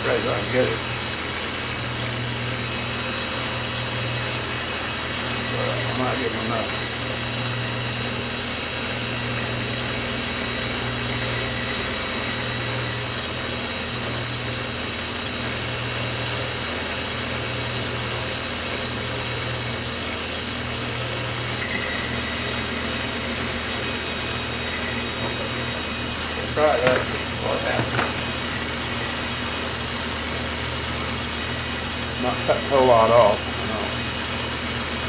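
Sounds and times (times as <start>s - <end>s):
metal lathe humming and whining: 0.0s - 35.0s.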